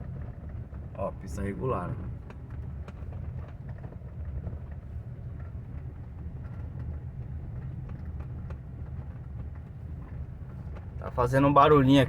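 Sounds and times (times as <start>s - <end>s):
low road rumble in car cabin: 0.0s - 12.0s
faint suspension clicks: 1.9s - 12.0s.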